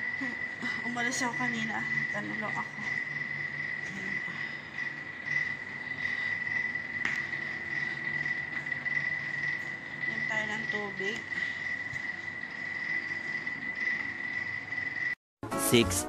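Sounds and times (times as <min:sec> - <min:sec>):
steady high-pitched tone: 0:00.0 - 0:16.0.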